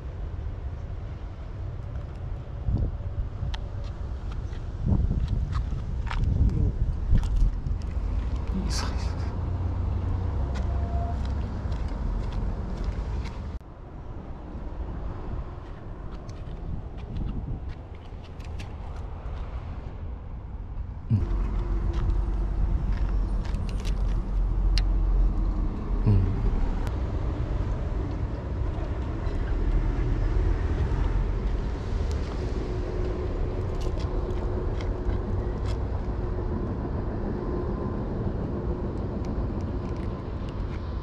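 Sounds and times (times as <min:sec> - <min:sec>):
low engine hum: 0:00.0 - 0:41.0
road traffic rumble: 0:00.0 - 0:41.0.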